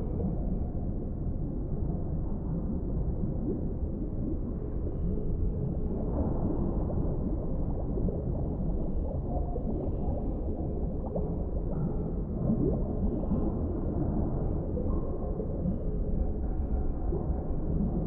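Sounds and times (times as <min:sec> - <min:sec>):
underwater rumble: 0:00.0 - 0:18.0
water bubbling and gurgling: 0:00.0 - 0:18.0.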